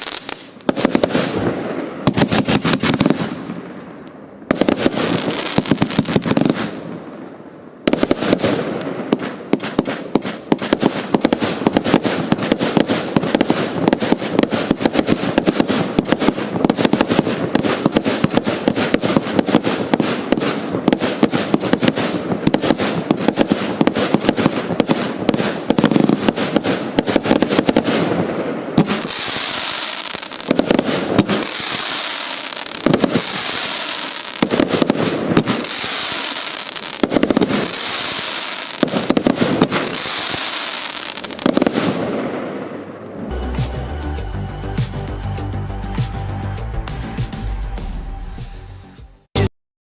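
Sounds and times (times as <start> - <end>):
hissing crackle with bangs: 0.0 - 43.2
firework cake firing cracks: 0.0 - 43.3.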